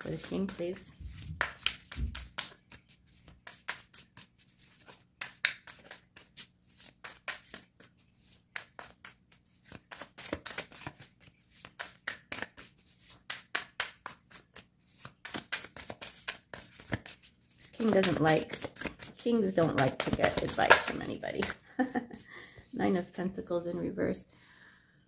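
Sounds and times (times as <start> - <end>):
cards shuffling: 0.0 - 23.0.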